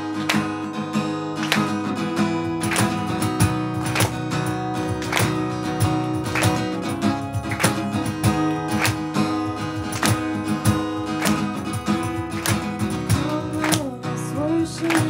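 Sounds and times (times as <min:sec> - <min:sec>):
acoustic guitar strumming: 0:00.0 - 0:15.0
cajon beat: 0:00.0 - 0:15.0.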